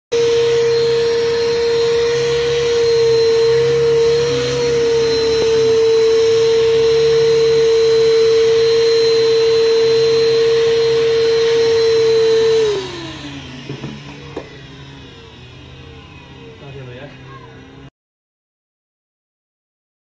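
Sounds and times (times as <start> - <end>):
shop vacuum motor whine: 0.1 - 17.9.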